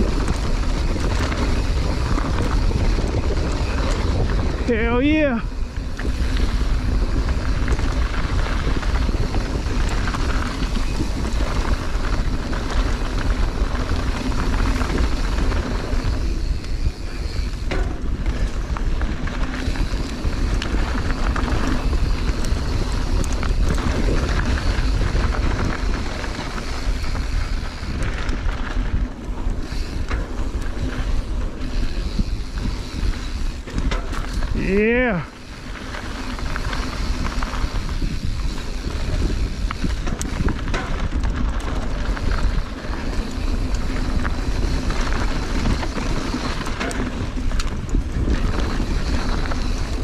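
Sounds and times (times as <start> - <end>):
bike clicks and rattles: 0.0 - 50.0
tyres rolling on dirt: 0.0 - 50.0
wind buffeting microphone: 0.0 - 50.0.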